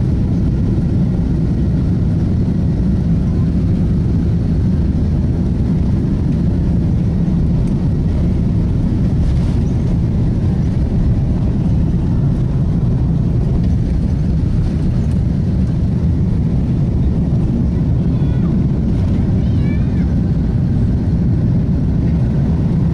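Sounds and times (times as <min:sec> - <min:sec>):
jet airliner engine rumble: 0:00.0 - 0:22.9.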